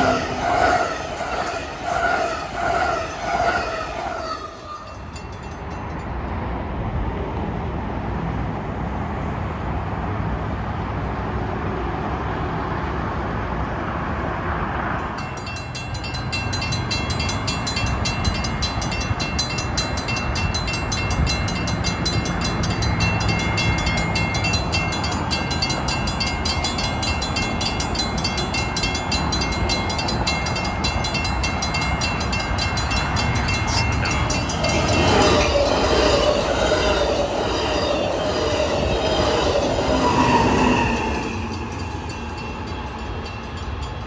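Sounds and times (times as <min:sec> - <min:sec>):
crossing warning bell ringing: 0:00.0 - 0:06.4, 0:15.0 - 0:44.0
train rumble: 0:00.0 - 0:44.0.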